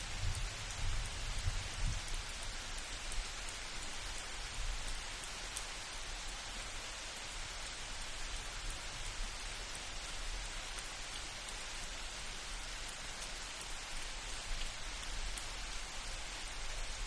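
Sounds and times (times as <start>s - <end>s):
steady rain in a forest: 0.0s - 17.0s.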